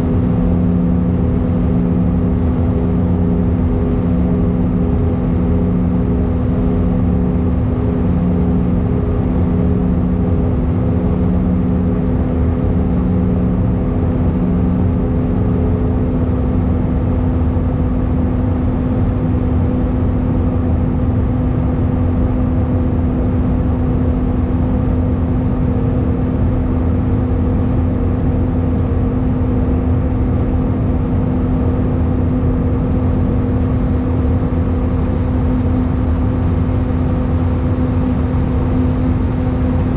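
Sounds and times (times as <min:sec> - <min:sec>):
low engine drone: 0:00.0 - 0:39.9
pulsing hum: 0:00.0 - 0:39.9.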